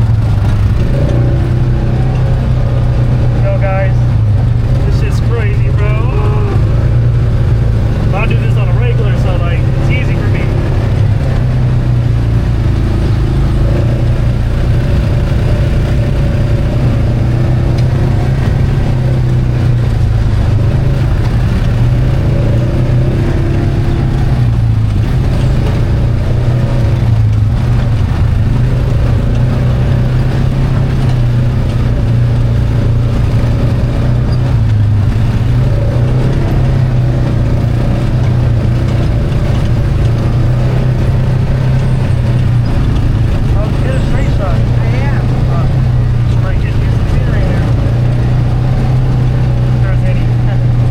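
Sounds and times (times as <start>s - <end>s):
atv engine running: 0.0s - 50.9s.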